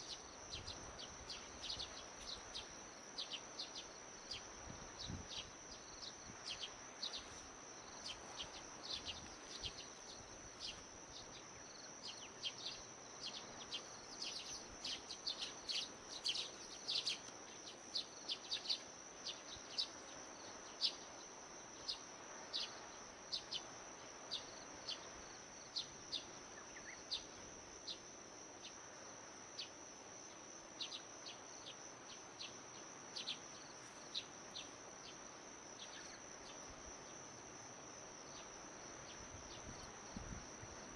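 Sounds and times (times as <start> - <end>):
insect high-pitched trill: 0.0 - 40.9.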